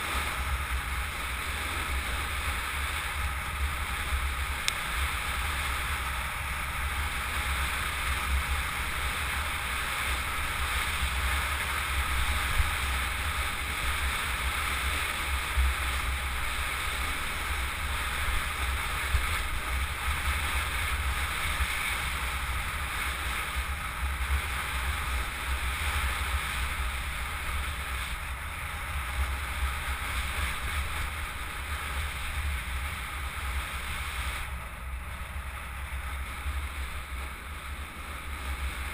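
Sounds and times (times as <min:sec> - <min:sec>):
bike tyres rolling on asphalt: 0:00.0 - 0:38.9.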